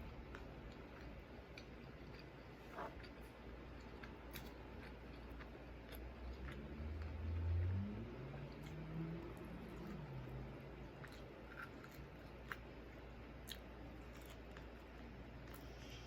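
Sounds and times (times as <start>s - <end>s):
low room hum: 0.0s - 16.0s
person chewing: 0.1s - 7.4s, 9.6s - 16.0s.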